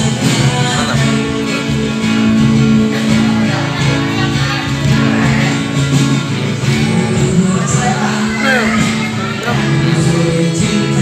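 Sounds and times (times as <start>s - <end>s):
person singing: 0.0s - 6.0s, 6.6s - 11.0s
live band with guitar: 0.0s - 11.0s.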